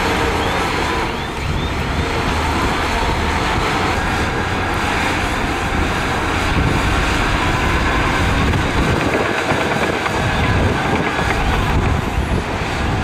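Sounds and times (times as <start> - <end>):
bulldozer diesel engine: 0.0 - 13.0.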